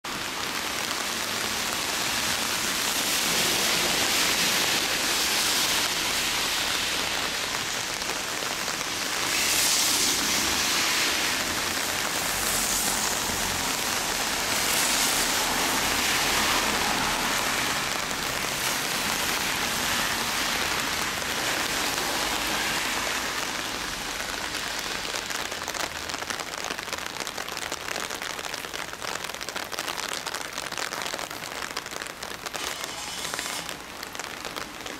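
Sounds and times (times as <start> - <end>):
rain splashing on hard surfaces: 0.0 - 34.9.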